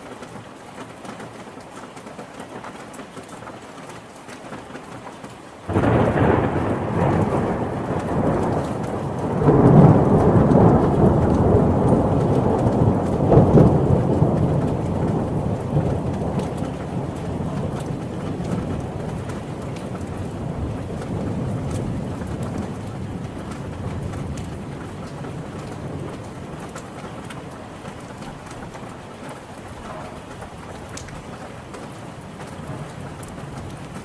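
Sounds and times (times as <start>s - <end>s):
steady rain falling: 0.0s - 34.0s
thunderclap and rumbling: 5.7s - 34.0s.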